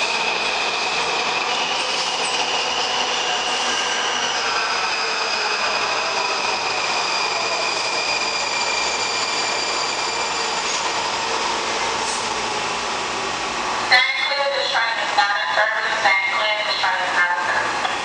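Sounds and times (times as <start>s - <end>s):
subway train rumble with whine: 0.0s - 18.0s.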